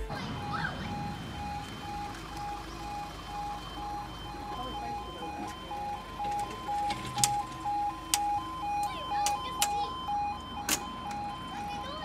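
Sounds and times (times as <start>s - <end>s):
higher alternating alarm tone: 0.0s - 12.0s
level crossing alarm beeping: 0.0s - 12.0s.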